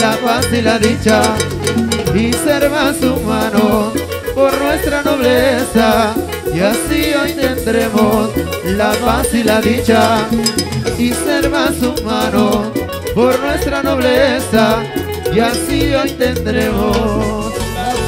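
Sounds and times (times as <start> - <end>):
cumbia band playing: 0.0 - 18.0
men singing: 0.0 - 18.0.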